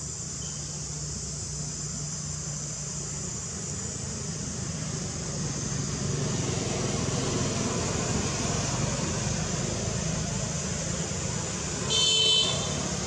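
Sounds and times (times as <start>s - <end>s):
high hiss: 0.0s - 13.0s.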